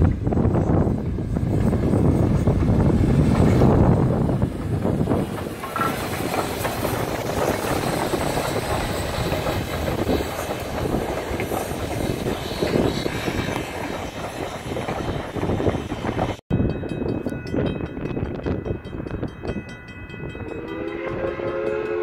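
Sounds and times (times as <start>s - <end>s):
steam train rolling past: 0.0s - 22.0s
train clanks and knocks: 0.0s - 22.0s.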